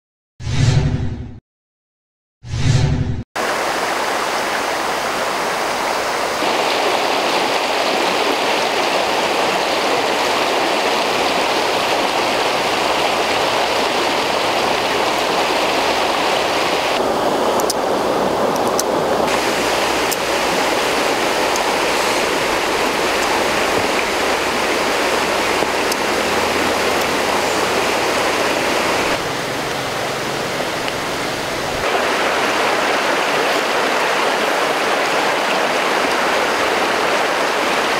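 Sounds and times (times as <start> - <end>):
stream water rushing: 3.4 - 37.9.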